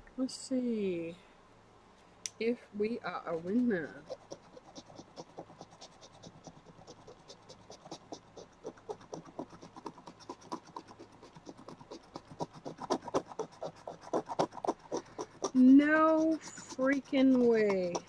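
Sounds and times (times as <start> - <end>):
scratch card scraping: 3.1 - 18.0.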